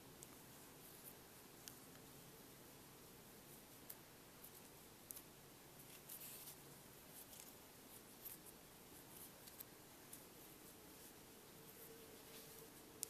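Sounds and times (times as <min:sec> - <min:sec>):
fingers rustling yarn: 0:00.0 - 0:13.0.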